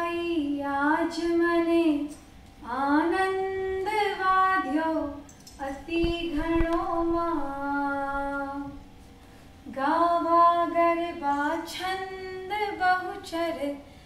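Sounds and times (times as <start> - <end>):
woman singing a hymn: 0.0 - 8.9, 9.6 - 13.9.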